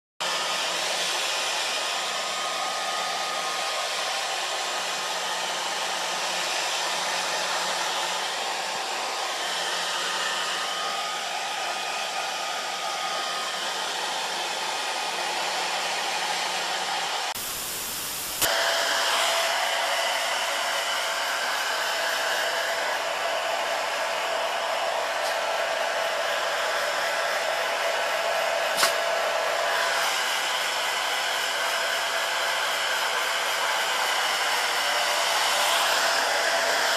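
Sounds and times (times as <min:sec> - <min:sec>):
hair dryer blowing: 0:00.2 - 0:36.9.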